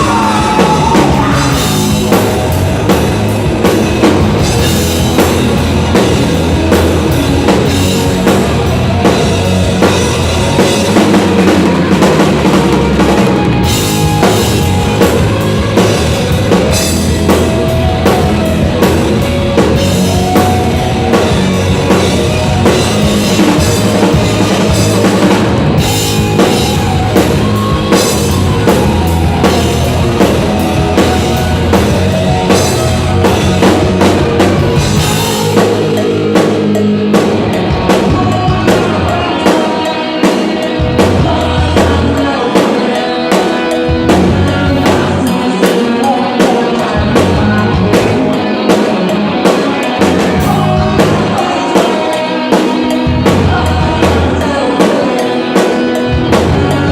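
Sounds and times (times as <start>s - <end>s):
person singing: 0.0s - 3.2s, 7.6s - 56.9s
drum kit: 0.0s - 56.9s
hard rock band playing: 0.0s - 56.9s.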